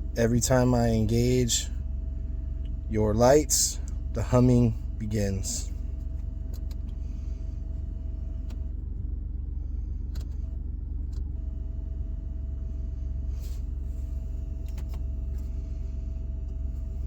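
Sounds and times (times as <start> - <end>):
low rumble in truck cab: 0.0 - 17.0
thin electrical hum: 0.0 - 17.0.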